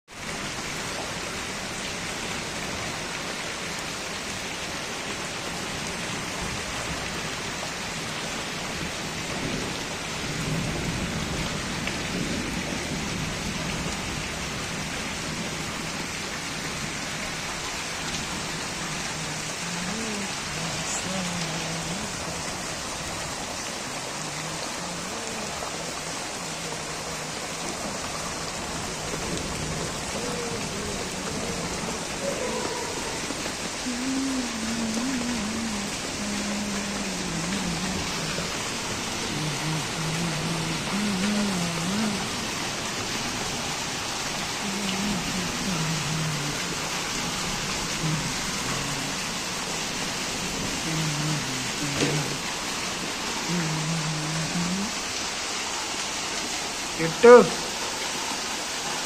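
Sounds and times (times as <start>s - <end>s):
heavy rain on standing water: 0.0s - 59.0s.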